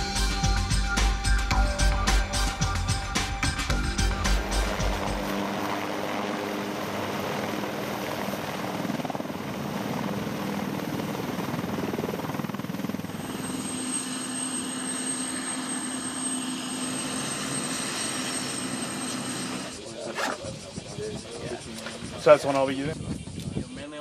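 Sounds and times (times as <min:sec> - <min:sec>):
helicopter rotor thrumming: 0:00.0 - 0:23.7
high turbine whine: 0:00.0 - 0:24.0.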